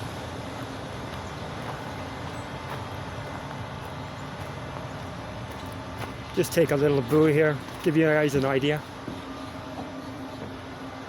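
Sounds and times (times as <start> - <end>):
outdoor background rumble: 0.0 - 11.0.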